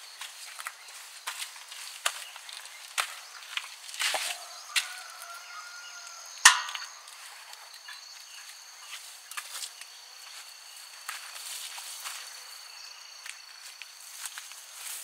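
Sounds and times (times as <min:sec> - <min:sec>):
crickets chirping: 0:00.0 - 0:15.0
footsteps: 0:00.1 - 0:05.6, 0:06.4 - 0:15.0.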